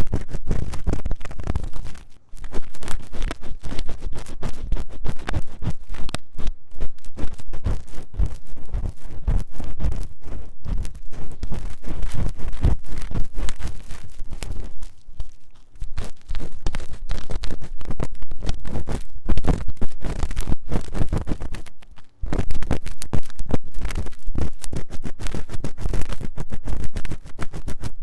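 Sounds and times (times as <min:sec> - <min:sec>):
tool scratching inside silicone ear: 0:00.0 - 0:28.0.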